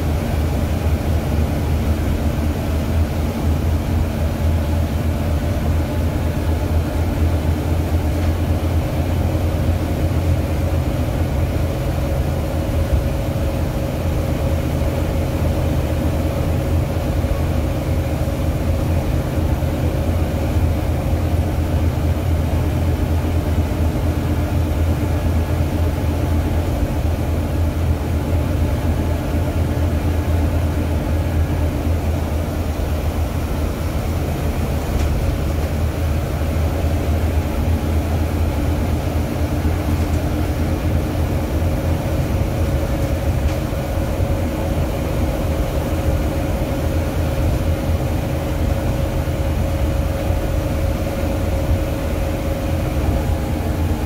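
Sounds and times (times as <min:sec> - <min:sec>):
bus diesel engine hum: 0:00.0 - 0:54.0
drivetrain whine: 0:00.0 - 0:54.0
road noise: 0:00.0 - 0:54.0.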